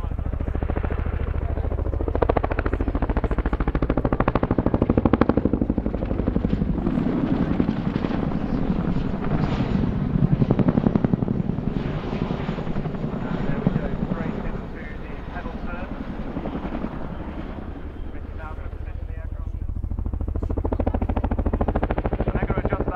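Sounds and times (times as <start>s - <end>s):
helicopter rotors chopping: 0.0s - 22.9s.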